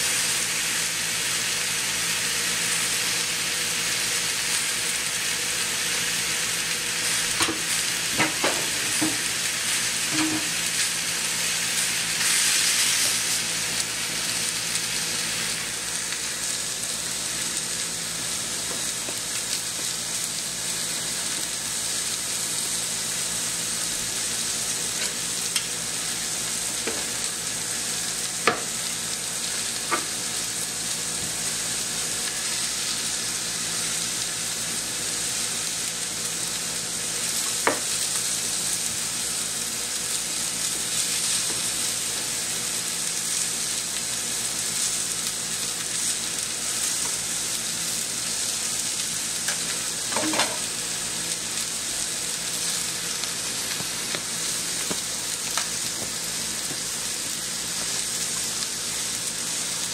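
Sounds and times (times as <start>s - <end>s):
food sizzling in pan: 0.0s - 59.9s.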